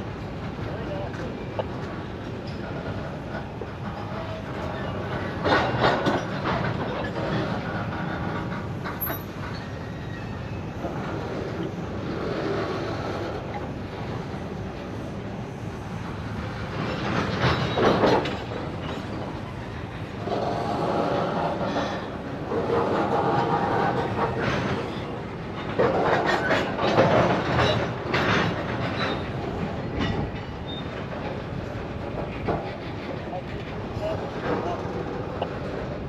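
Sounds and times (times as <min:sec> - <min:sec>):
freight cars rolling on rails: 0:00.0 - 0:36.0
wheels clacking over rail joints: 0:00.1 - 0:36.0.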